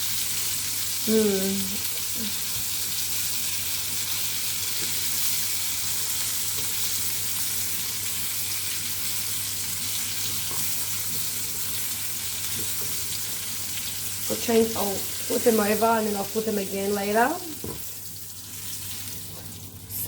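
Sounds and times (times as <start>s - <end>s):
meatballs sizzling in a frying pan: 0.0s - 20.0s.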